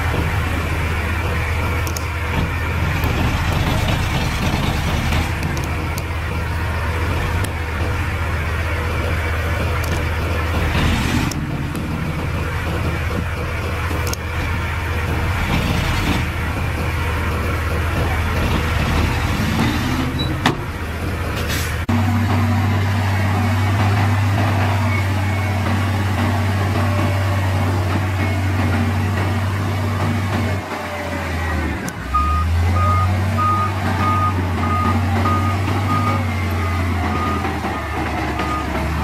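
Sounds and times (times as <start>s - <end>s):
heavy machine engines running: 0.0s - 39.0s.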